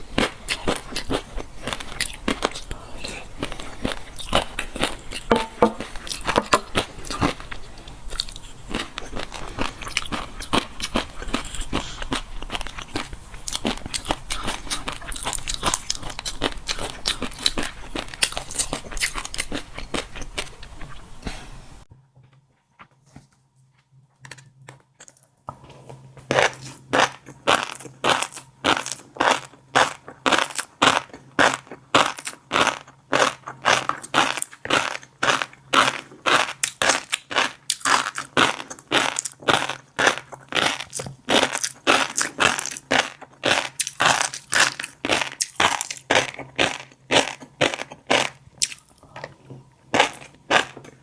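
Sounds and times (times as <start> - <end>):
chewing fish roe: 0.0 - 21.1, 24.2 - 51.0.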